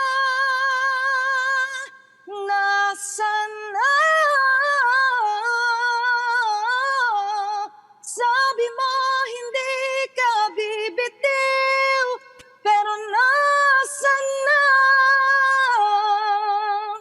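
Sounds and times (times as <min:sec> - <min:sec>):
woman singing unaccompanied: 0:00.0 - 0:17.0.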